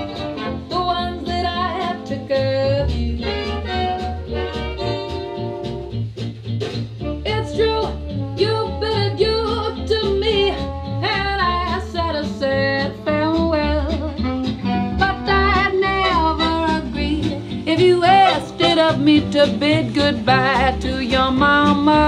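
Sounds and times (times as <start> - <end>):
swing jazz band: 0.0 - 22.0.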